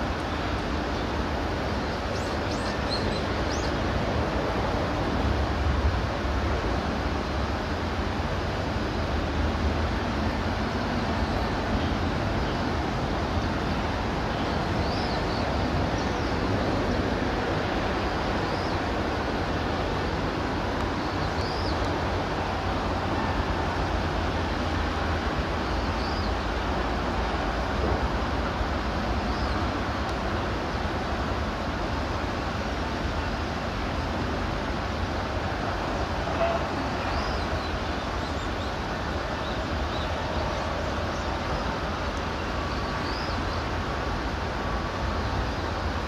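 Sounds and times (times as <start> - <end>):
steady outdoor rumble: 0.0 - 46.0.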